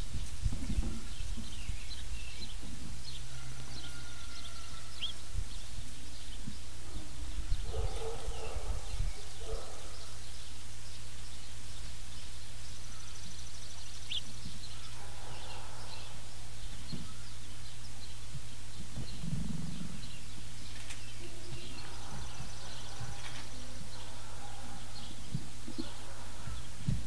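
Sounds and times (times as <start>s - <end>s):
bird chirps: 0.0s - 27.0s
steady low hum: 0.0s - 27.0s.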